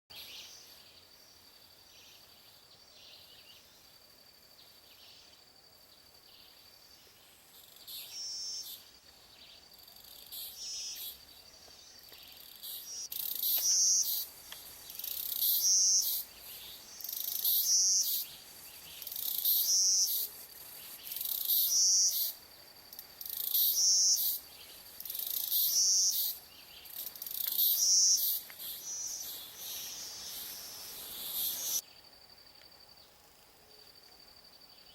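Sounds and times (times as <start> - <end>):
insect trill: 0.2 - 34.9.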